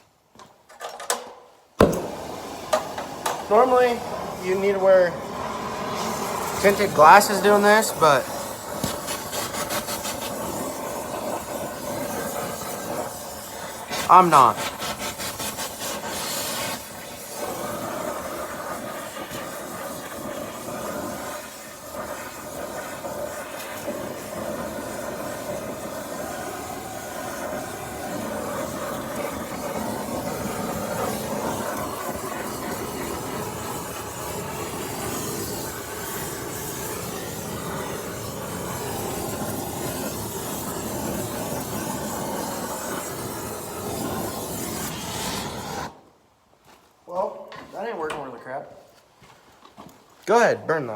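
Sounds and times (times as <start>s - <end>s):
torch flame hissing: 1.8s - 46.2s.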